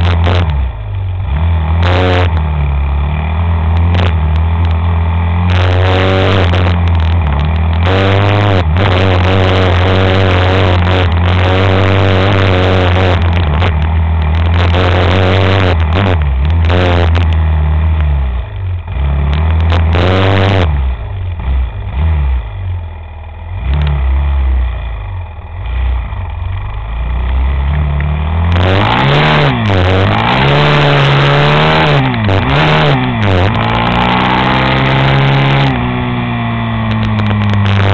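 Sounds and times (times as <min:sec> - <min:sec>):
vehicle engine revving: 0:00.0 - 0:37.9.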